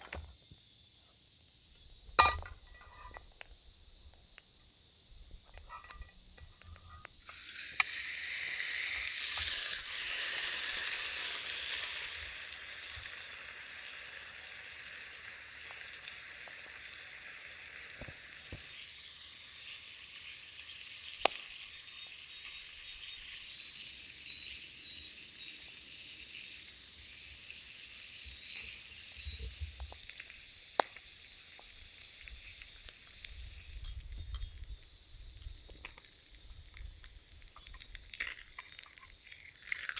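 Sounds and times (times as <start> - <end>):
meat sizzling in a cup: 1.4 - 39.9.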